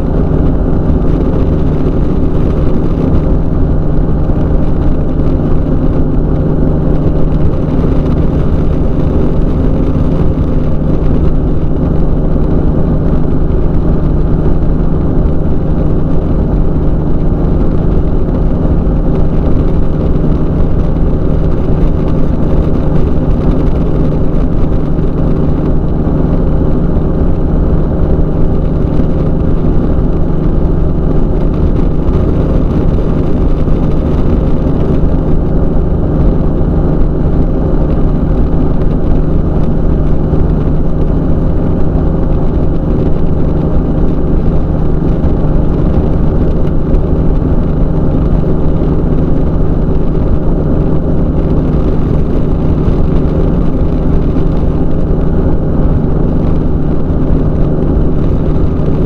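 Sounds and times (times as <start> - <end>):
microlight engine and propeller drone: 0.0 - 59.0.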